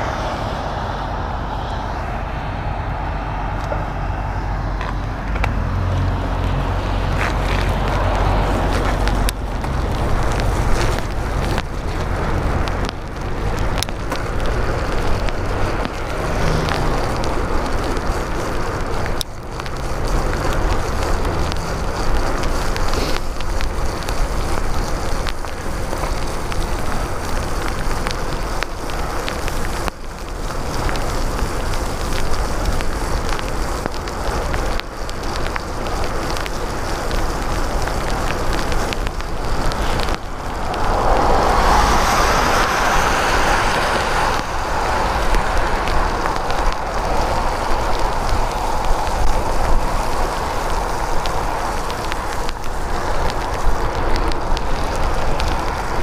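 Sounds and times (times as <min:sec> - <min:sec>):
bicycle tyres hissing on wet pavement: 0:00.0 - 0:56.0
wind buffeting microphone: 0:00.0 - 0:56.0.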